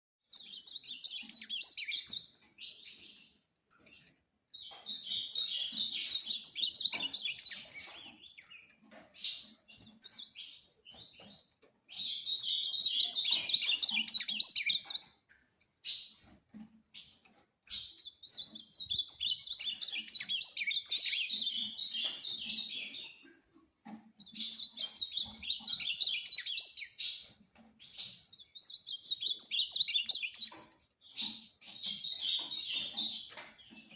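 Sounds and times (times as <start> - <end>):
bird warbling song: 0.2 - 33.9.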